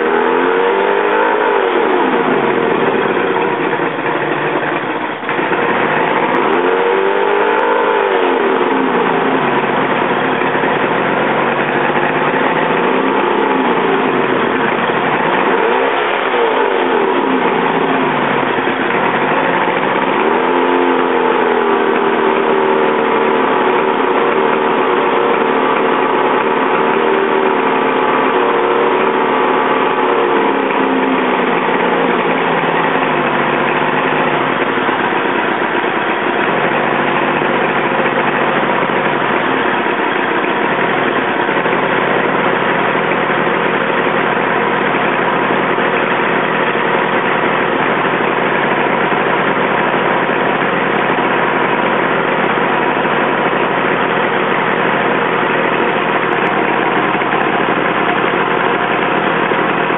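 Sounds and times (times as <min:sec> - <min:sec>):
outboard motor idling: 0:00.0 - 0:59.9.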